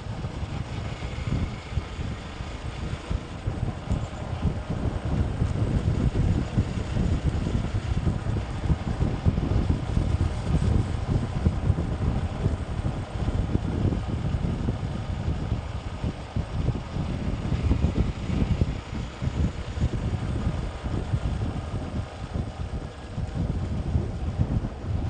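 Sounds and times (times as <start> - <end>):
road and vehicle noise: 0.0 - 25.0
wind buffeting microphone: 0.0 - 25.0.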